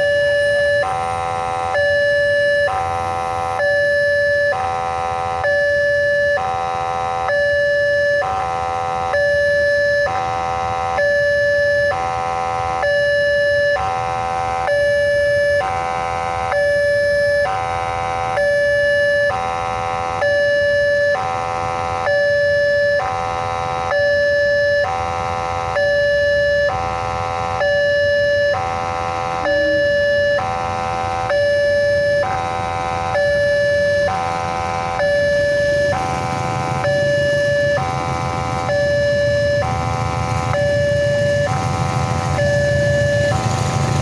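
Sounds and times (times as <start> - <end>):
two-tone level crossing siren: 0.0 - 44.0.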